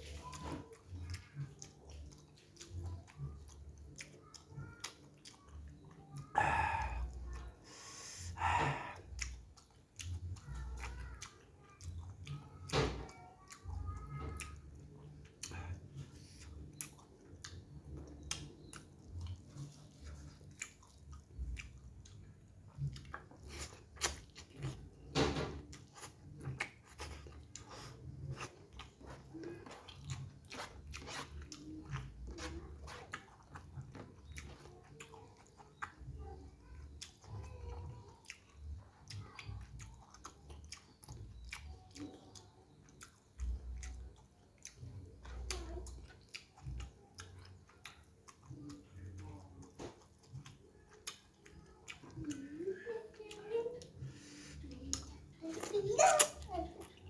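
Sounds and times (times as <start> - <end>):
person chewing noodles: 0.0 - 57.0.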